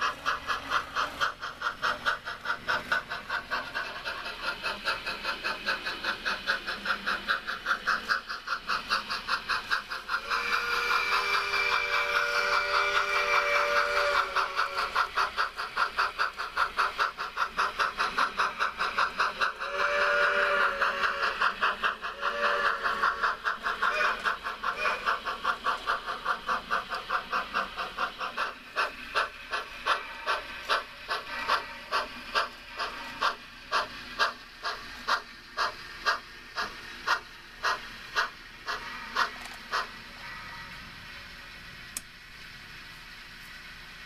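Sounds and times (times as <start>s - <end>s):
model steam locomotive chuffing: 0.0s - 44.0s.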